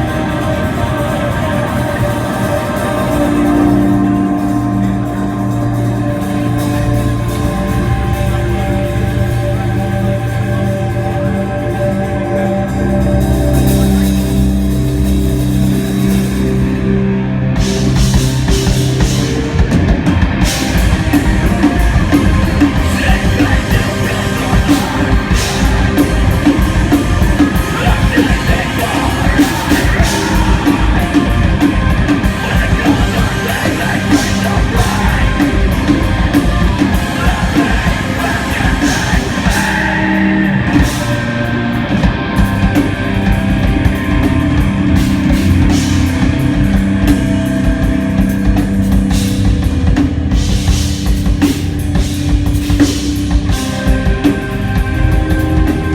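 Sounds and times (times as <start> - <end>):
rock band playing loud: 0.0 - 55.9.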